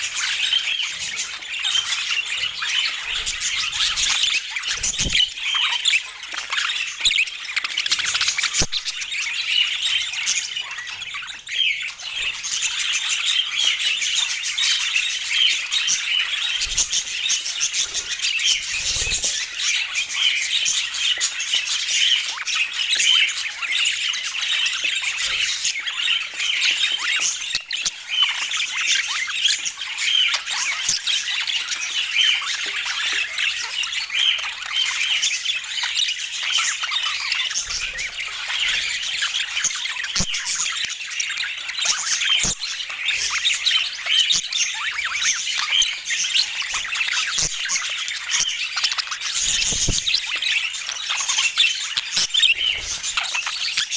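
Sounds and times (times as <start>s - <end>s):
budgerigars chattering and chirping: 0.0s - 53.9s.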